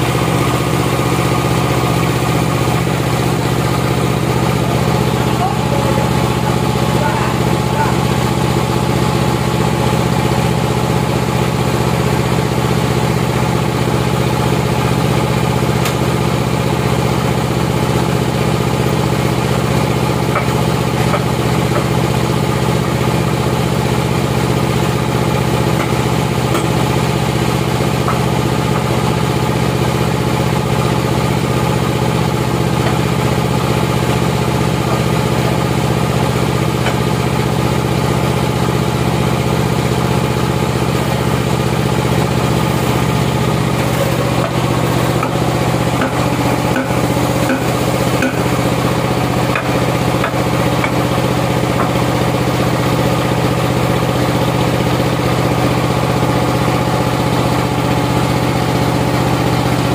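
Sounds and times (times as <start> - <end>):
engine idling hum: 0.0 - 59.9.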